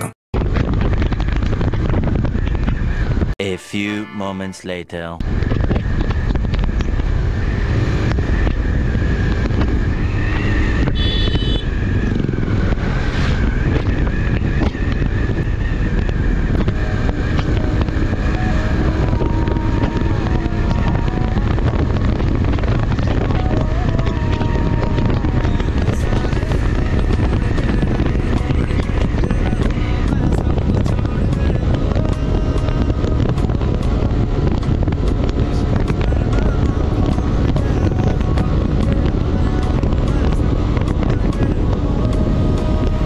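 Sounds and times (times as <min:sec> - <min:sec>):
wind rush on microphone: 0:00.0 - 0:03.4, 0:05.2 - 0:43.0
motorcycle engine running: 0:05.3 - 0:43.0.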